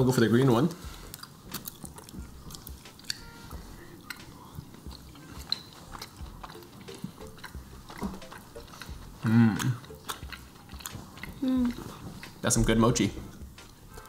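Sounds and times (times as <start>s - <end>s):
wet chewing clicks and smacks: 0.6s - 14.0s.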